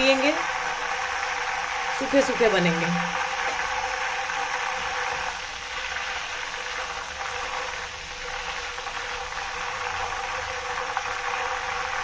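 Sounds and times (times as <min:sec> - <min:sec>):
banana slices sizzling in oil: 0:00.0 - 0:12.0.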